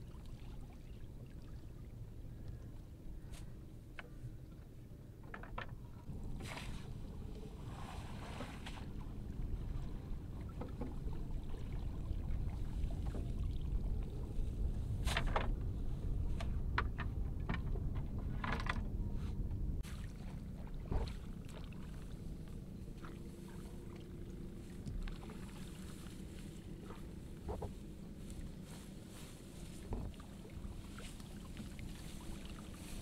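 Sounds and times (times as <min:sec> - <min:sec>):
steady low rumble: 0:05.8 - 0:33.0.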